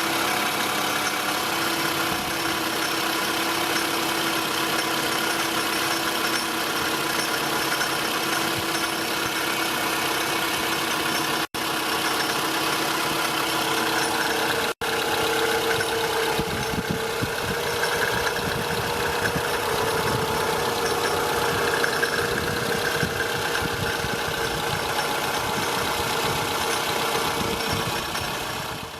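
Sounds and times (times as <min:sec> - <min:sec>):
car engine idling: 0:00.0 - 0:28.9.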